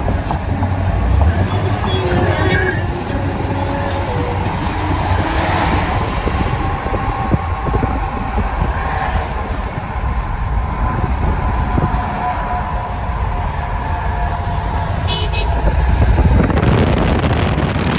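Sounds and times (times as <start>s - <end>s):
car road and tyre noise: 0.0s - 17.9s
freight train passing: 0.0s - 17.9s.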